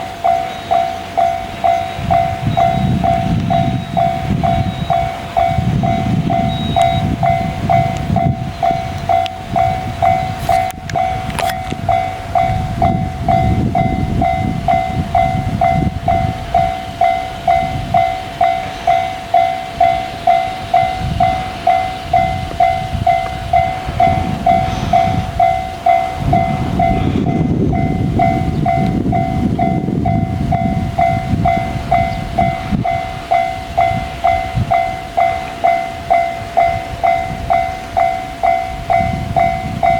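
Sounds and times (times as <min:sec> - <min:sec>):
crossing alarm beeping: 0:00.0 - 0:39.9
train rumbling on tracks: 0:00.0 - 0:39.9.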